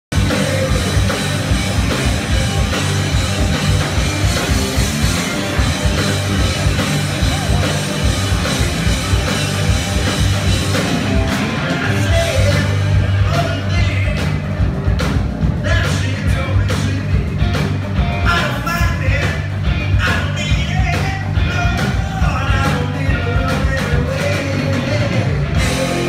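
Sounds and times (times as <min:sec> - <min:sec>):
bass guitar: 0:00.0 - 0:26.0
distorted electric guitars: 0:00.0 - 0:26.0
drum kit driving beat: 0:00.0 - 0:26.0.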